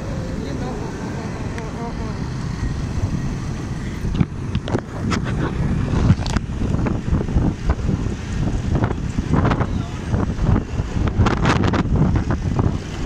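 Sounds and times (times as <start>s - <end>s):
motorcycle engine rumble: 0.0s - 13.0s
sharp gusts and rustles: 0.0s - 13.0s
wind buffeting microphone: 0.0s - 13.0s.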